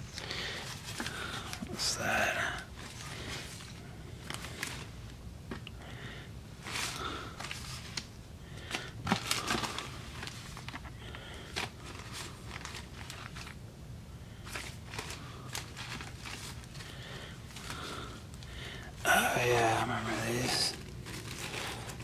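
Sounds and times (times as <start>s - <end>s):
plastic bags and wrappers crinkling: 0.0s - 2.0s, 2.6s - 5.7s, 6.6s - 13.6s, 14.4s - 22.0s.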